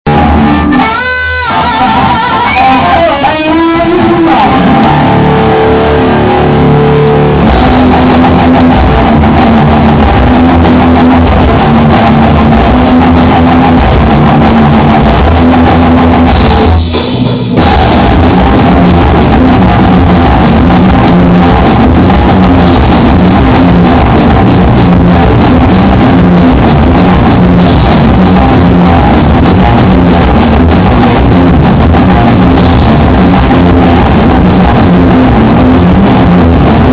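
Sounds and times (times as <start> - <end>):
drums: 0.0 - 36.9
electric guitar riff: 0.0 - 36.9.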